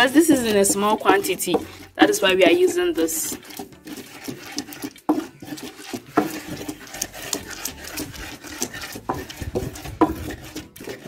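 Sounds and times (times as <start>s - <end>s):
pestle grinding in bowl: 0.0s - 11.0s
pestle knocking against clay: 0.2s - 2.0s, 2.6s - 11.0s.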